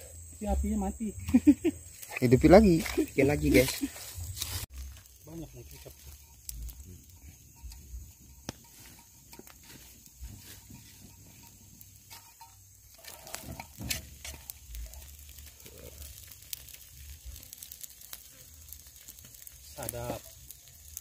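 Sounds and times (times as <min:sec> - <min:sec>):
fire crackles and pops: 0:00.0 - 0:21.0
fish sizzling over campfire: 0:00.0 - 0:21.0.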